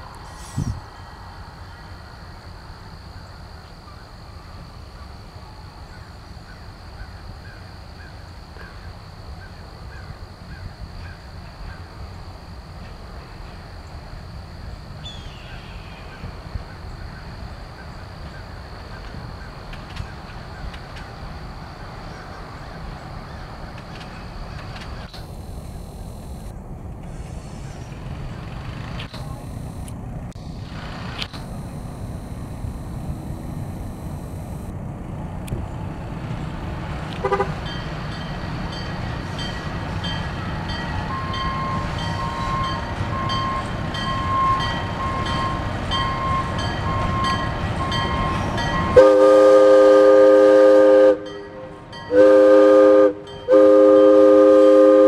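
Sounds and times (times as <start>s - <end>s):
diesel locomotive rumble: 0.0s - 55.0s.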